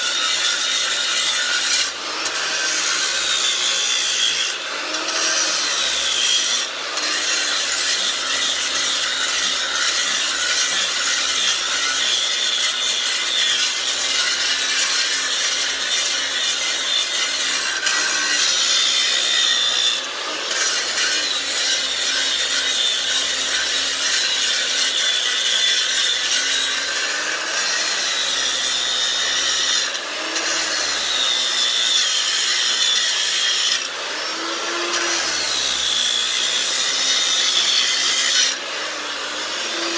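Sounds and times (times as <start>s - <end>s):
angle grinder cutting concrete: 0.0s - 39.9s.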